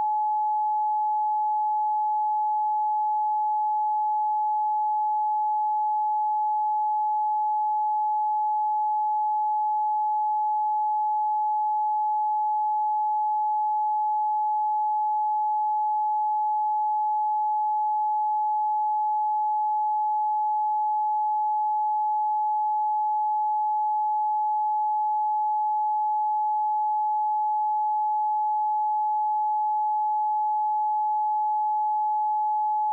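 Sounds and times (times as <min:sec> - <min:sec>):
electronic sine-wave tone: 0:00.0 - 0:32.9.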